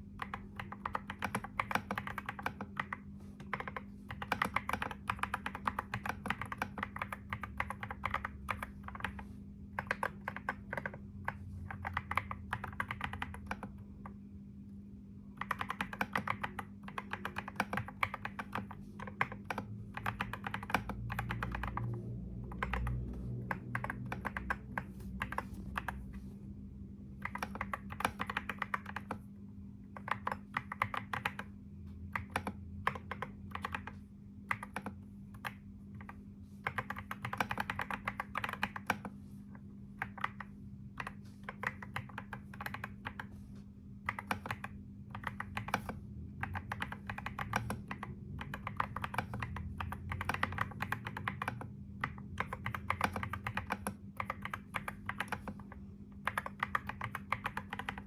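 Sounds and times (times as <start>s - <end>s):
computer keyboard typing: 0.0s - 14.2s, 15.4s - 26.3s, 27.1s - 58.0s
steady low hum: 0.0s - 58.0s.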